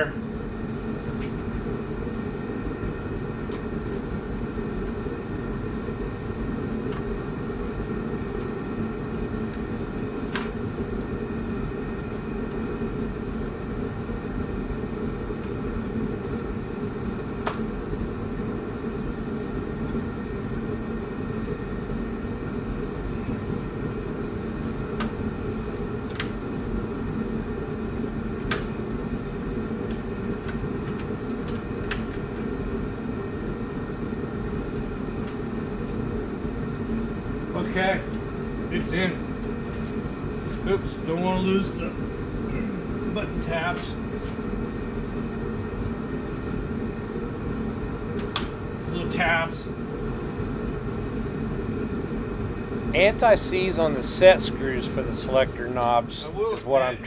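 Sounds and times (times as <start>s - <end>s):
machine droning: 0.0s - 57.0s.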